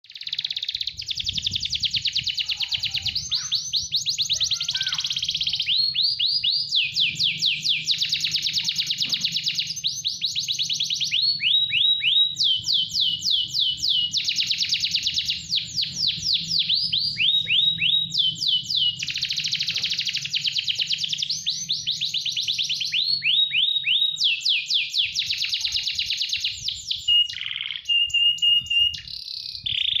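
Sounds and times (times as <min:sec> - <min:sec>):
canary singing rapid trills: 0:00.0 - 0:30.0.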